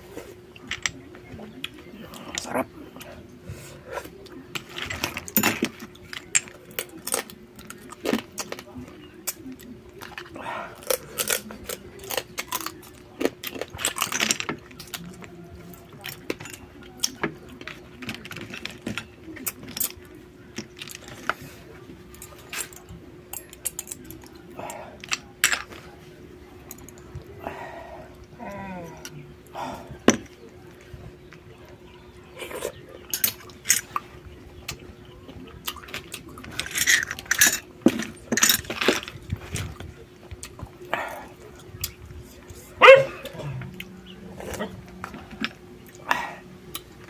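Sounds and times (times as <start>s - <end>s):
faint steady hum: 0.0s - 47.0s
chewing crunches and clicks: 4.0s - 26.0s, 26.6s - 47.0s.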